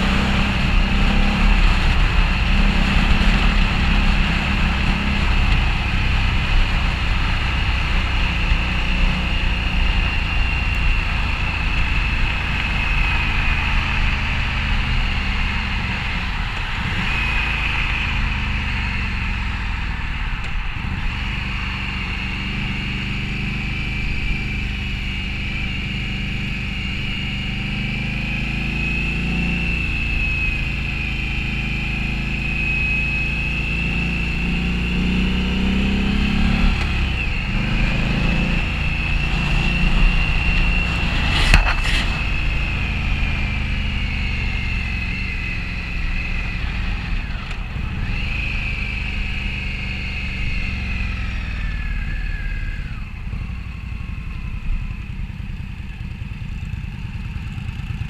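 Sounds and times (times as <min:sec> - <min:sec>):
steady high whine: 0:00.0 - 0:55.9
motorcycle engine running: 0:00.0 - 0:58.0.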